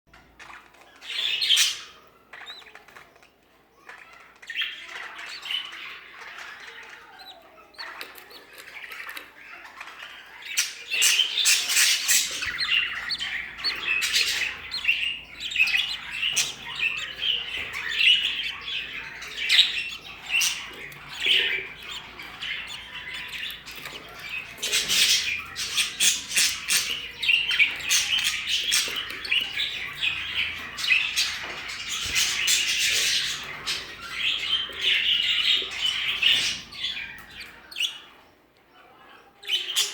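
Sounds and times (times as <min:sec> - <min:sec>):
budgerigars chattering and chirping: 0:00.1 - 0:39.9.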